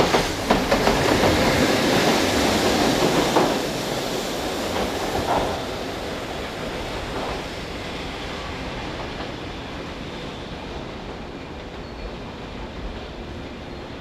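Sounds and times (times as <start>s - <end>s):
freight train rolling on rails: 0.0s - 14.0s.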